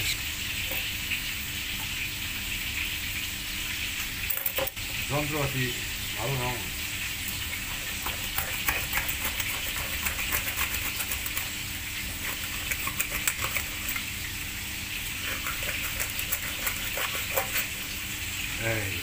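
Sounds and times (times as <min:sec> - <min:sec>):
fish sizzling in hot oil: 0:00.0 - 0:18.6.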